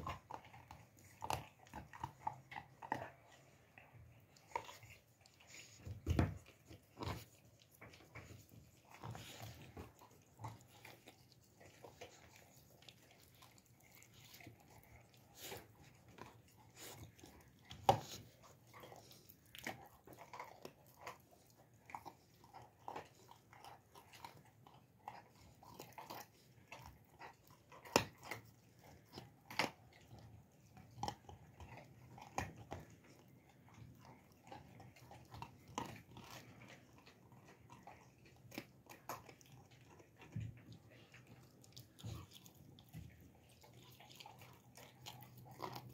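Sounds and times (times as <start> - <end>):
puppy chewing meat: 0.0 - 45.9.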